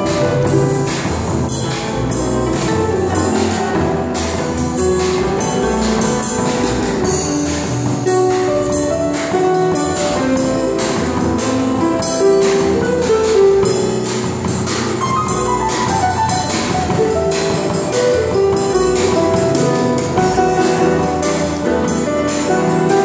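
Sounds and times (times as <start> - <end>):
grand piano: 0.0 - 23.0
live instrumental band music: 0.0 - 23.0
percussive beat: 0.0 - 23.0.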